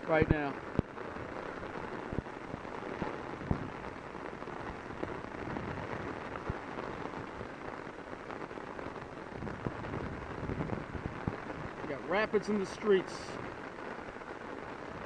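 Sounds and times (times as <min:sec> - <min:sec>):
drops hitting umbrella canopy: 0:00.0 - 0:15.0
heavy rain on an umbrella: 0:00.0 - 0:15.0.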